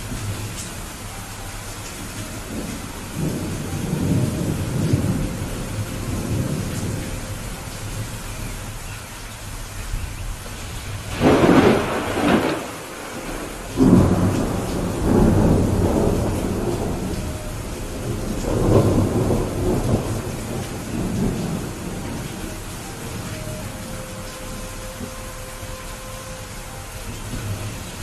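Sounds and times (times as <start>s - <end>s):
steady rain: 0.0s - 28.0s
thunder rumbling: 0.0s - 28.0s.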